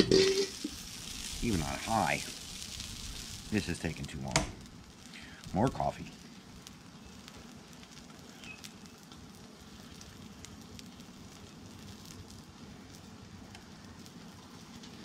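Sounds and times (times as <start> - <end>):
gas burner flame rushing: 0.0 - 15.0
light ticks and crackles: 0.5 - 15.0.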